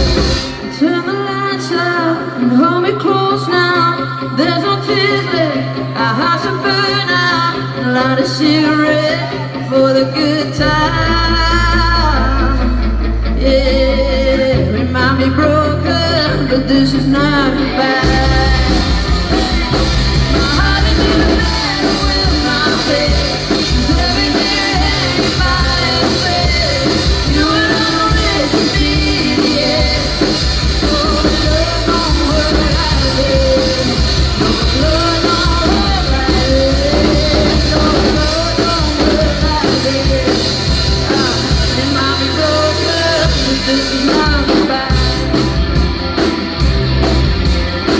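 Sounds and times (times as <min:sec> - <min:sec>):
rock band playing live: 0:00.0 - 0:47.9.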